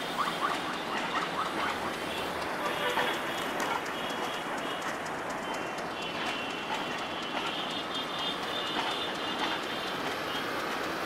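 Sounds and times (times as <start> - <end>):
train wheels clicking over joints: 0.0 - 11.0.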